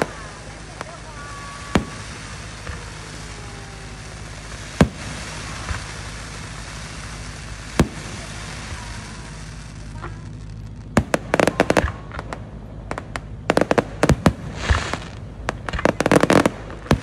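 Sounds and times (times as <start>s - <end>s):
fireworks bangs: 0.0s - 17.0s
fireworks hiss: 0.0s - 17.0s.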